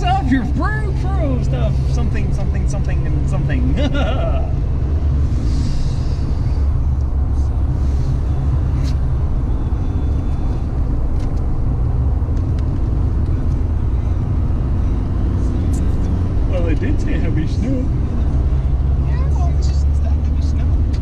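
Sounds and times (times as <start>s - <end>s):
car engine and tyres droning: 0.0s - 21.0s.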